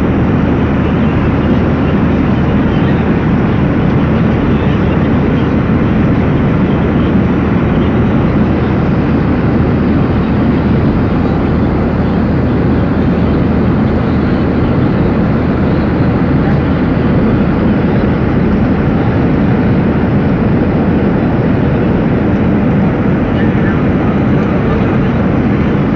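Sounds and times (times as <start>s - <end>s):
aircraft cabin drone: 0.0s - 25.9s.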